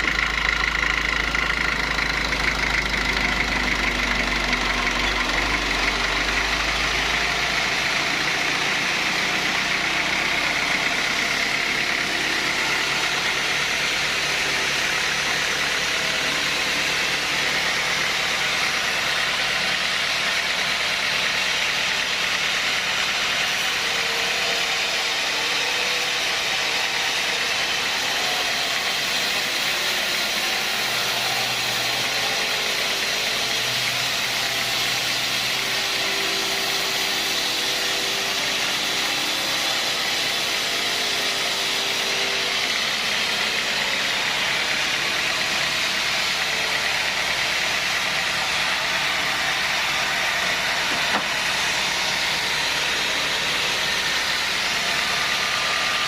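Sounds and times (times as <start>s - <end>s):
sawmill machinery hiss and hum: 0.0s - 56.0s.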